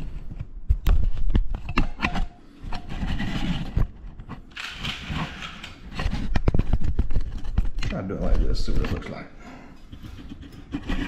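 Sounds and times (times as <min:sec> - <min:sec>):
camera rubbing and scraping: 0:00.0 - 0:09.3, 0:09.9 - 0:11.0.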